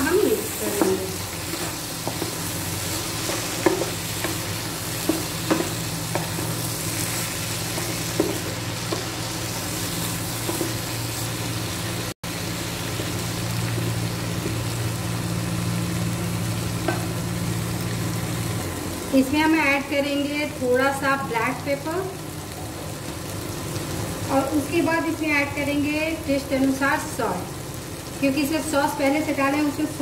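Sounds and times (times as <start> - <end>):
food sizzling in a frying pan: 0.0 - 30.0
low cooktop hum: 0.0 - 30.0.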